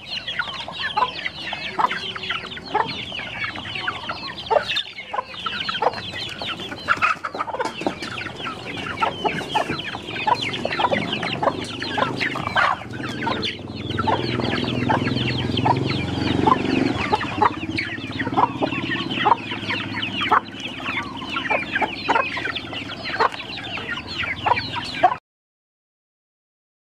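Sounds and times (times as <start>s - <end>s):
chicks peeping: 0.0s - 25.2s
hens clucking: 0.0s - 25.2s.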